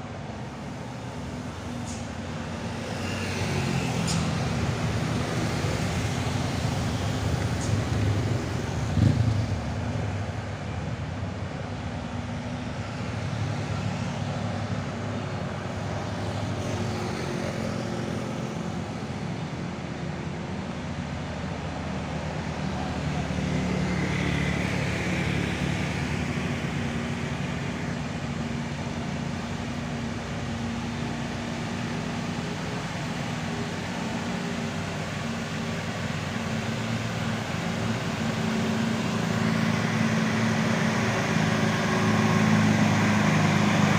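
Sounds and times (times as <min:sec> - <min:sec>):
heavy truck diesel engines: 0:00.0 - 0:43.9
passing road traffic: 0:00.0 - 0:43.9.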